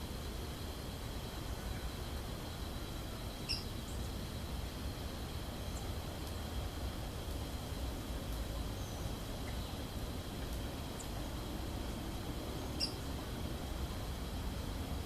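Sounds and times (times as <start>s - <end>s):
faint high-pitched hum: 0.0s - 15.0s.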